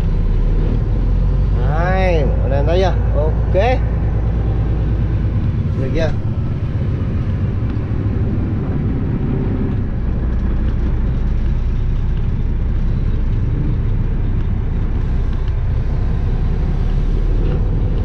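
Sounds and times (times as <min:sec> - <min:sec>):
road noise: 0:00.0 - 0:18.0
truck diesel engine running: 0:00.0 - 0:18.0.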